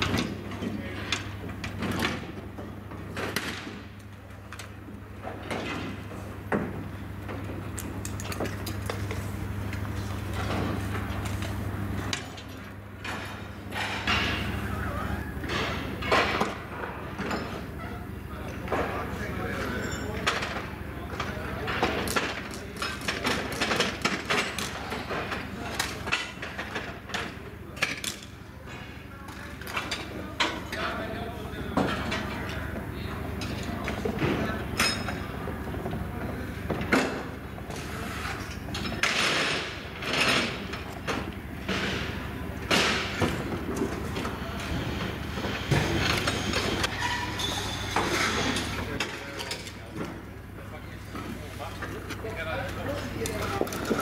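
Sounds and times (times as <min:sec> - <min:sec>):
low machinery hum: 0:00.0 - 0:54.0.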